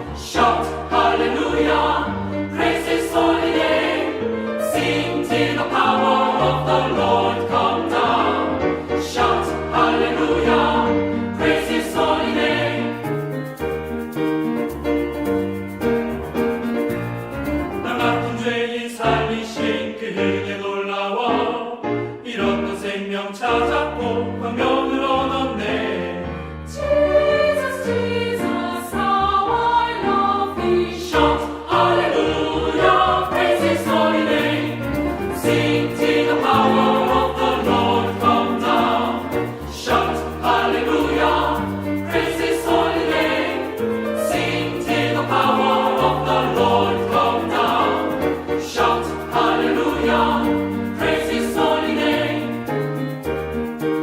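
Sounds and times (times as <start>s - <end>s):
choir singing praise song: 0.0s - 13.2s, 17.8s - 52.9s
instrumental accompaniment: 0.0s - 18.5s, 26.0s - 54.0s.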